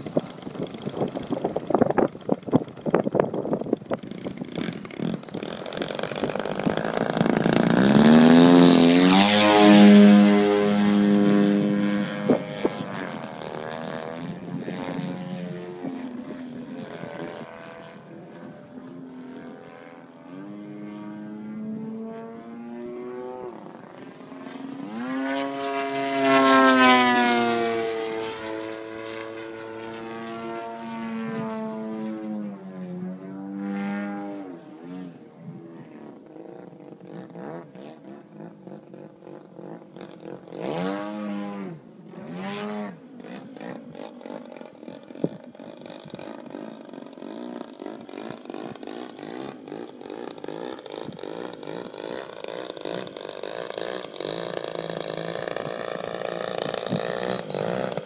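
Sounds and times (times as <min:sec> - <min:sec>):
propeller aircraft flying past: 0:00.0 - 0:58.0.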